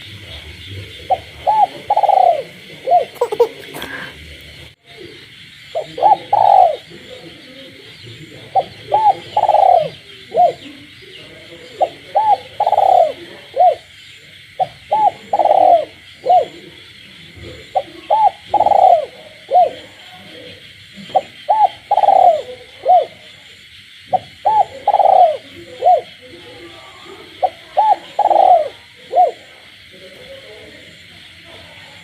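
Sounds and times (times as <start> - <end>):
dove cooing: 0.0 - 4.3, 4.9 - 23.5, 24.1 - 30.8
frogs chorus: 0.0 - 32.0.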